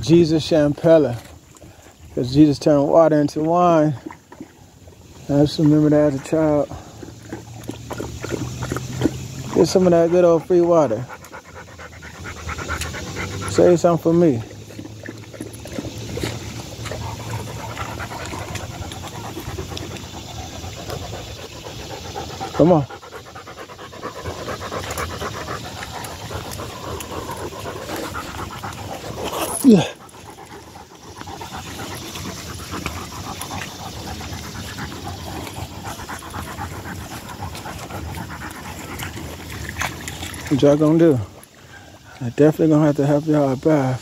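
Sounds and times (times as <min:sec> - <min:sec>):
dogs lapping water: 0:00.0 - 0:44.0.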